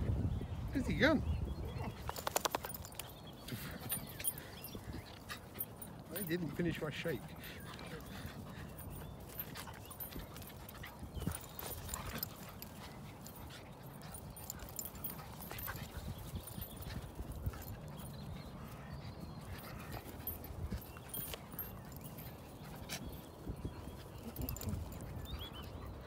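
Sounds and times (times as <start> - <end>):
dogs scuffling on grass: 0.6 - 26.0.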